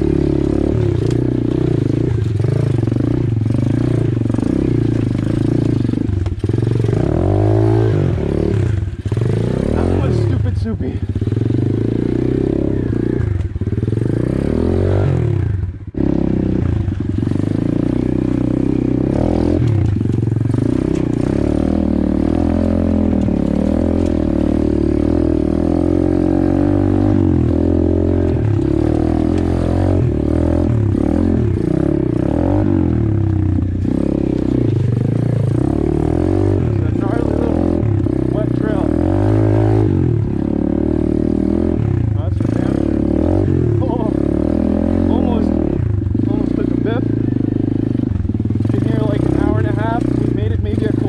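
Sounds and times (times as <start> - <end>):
motorbike engine revving: 0.0 - 51.0.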